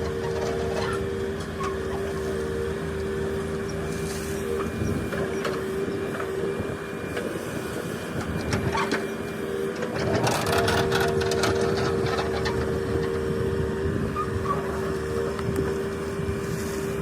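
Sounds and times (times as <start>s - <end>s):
constant whine: 0.0s - 17.0s
diesel engine running: 0.0s - 17.0s.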